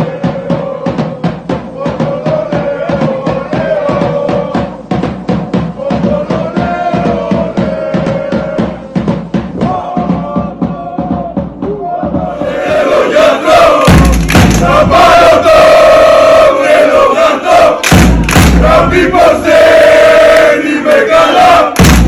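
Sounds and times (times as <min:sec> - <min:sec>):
bass and snare drums: 0:00.0 - 0:22.0.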